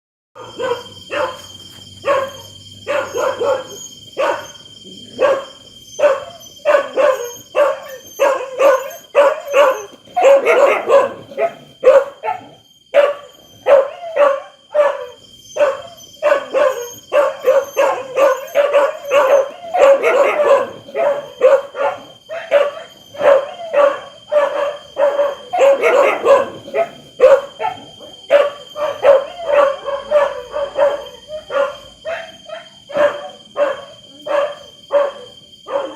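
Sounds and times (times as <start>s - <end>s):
dogs barking: 0.4s - 35.9s
steady high-pitched tone: 0.4s - 35.9s.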